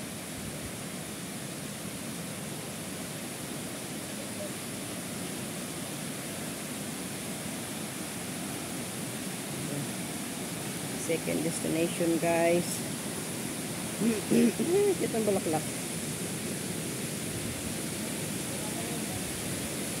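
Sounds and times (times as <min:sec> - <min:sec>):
forest stream rushing: 0:00.0 - 0:20.0.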